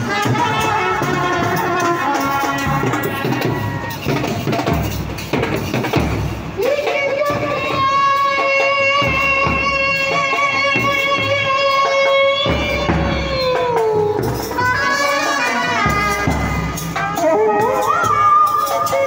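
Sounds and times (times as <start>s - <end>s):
street brass band playing: 0.0s - 19.0s.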